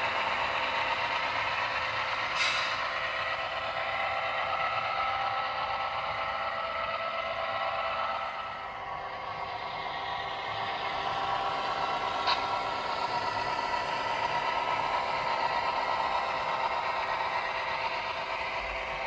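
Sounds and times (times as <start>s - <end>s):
model locomotive engine drone: 0.0s - 19.0s.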